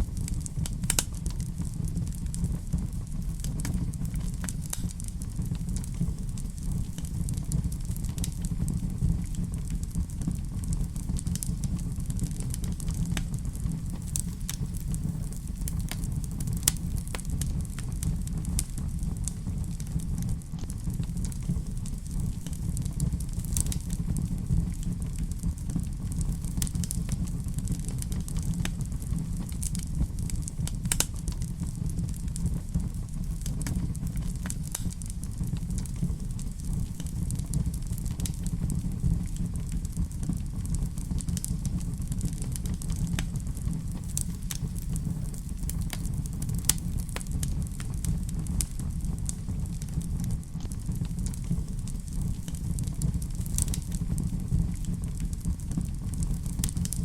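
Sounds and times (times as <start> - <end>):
fire crackles and pops: 0.0 - 57.0
fireplace fire rumbling: 0.0 - 57.0.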